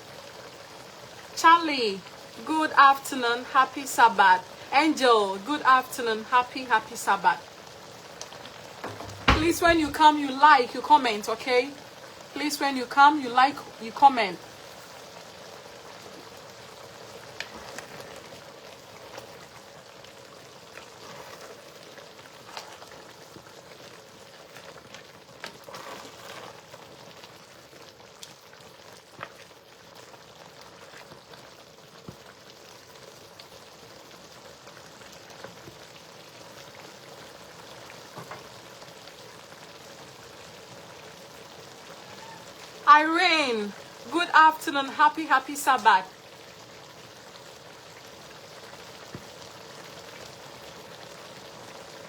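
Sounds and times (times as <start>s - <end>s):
stew sizzling in a pot: 0.0s - 52.0s.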